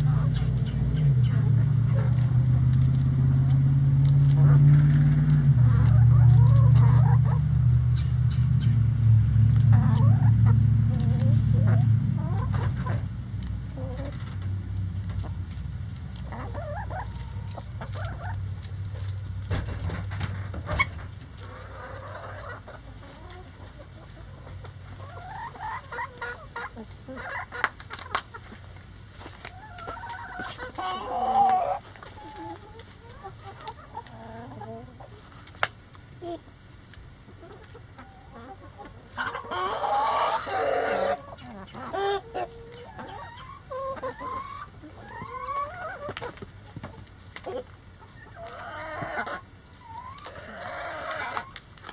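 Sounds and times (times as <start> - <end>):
chickens clucking and calling: 0.0 - 51.9.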